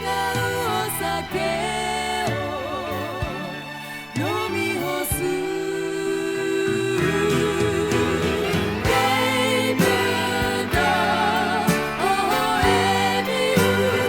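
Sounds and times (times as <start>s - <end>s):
pop song with band and singing: 0.0s - 14.0s.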